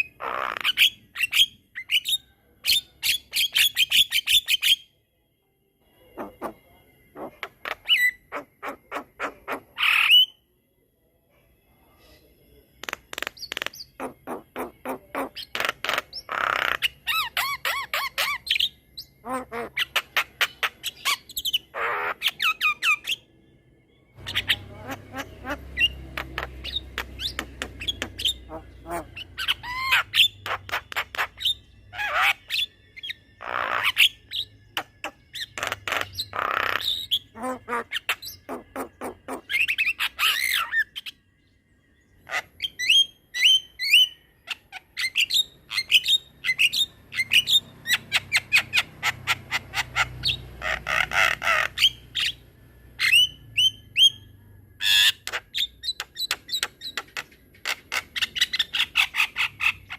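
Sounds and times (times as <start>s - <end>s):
bird chattering and squawking: 0.0s - 4.8s, 6.1s - 10.4s, 12.8s - 23.2s, 24.2s - 41.2s, 42.2s - 52.4s, 53.0s - 54.2s, 54.8s - 59.9s.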